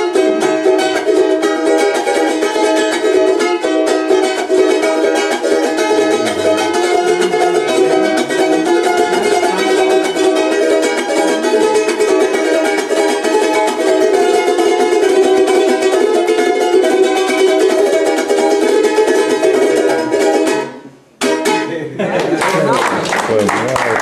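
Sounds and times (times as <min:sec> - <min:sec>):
charango strumming: 0:00.0 - 0:21.8.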